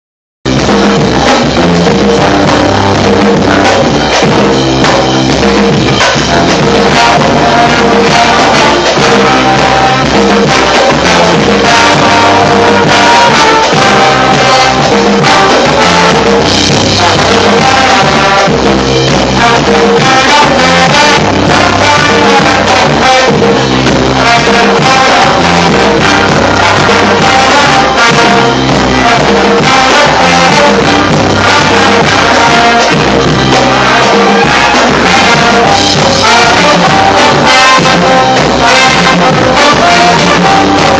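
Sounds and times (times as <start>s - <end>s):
band music with drums: 0.4s - 40.9s.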